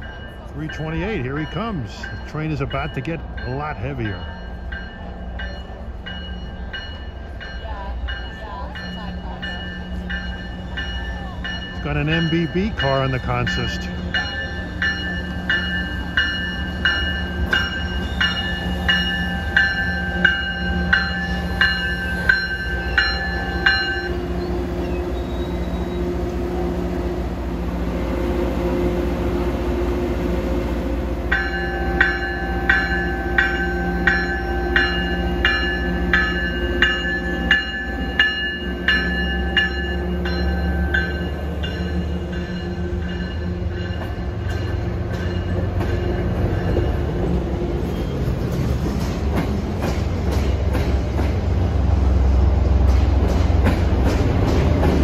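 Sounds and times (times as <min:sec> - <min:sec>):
locomotive bell ringing: 0:00.0 - 0:27.2, 0:29.8 - 0:48.2.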